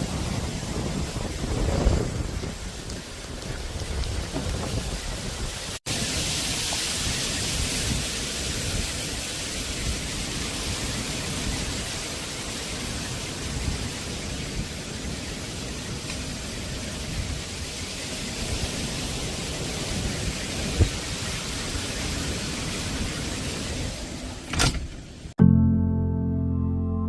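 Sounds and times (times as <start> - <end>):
low rumble of wind: 0.0 - 25.4
rain hissing: 0.0 - 25.4.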